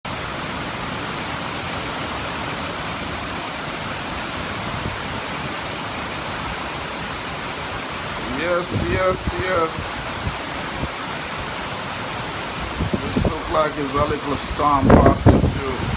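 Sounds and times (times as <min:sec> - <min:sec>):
rain: 0:00.0 - 0:15.9
storm wind: 0:00.1 - 0:15.9.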